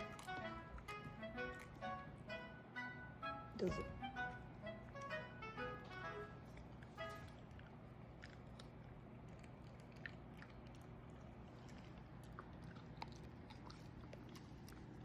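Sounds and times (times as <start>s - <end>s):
dog chewing a treat: 0.0s - 2.1s, 3.5s - 15.0s.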